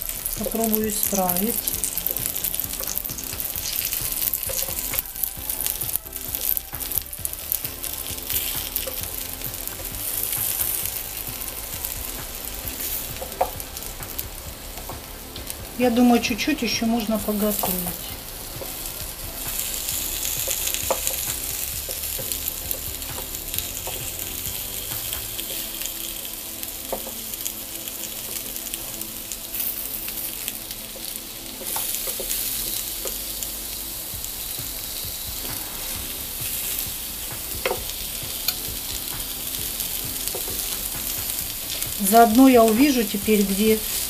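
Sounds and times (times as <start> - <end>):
vegetables sizzling on a grill: 0.0 - 44.0.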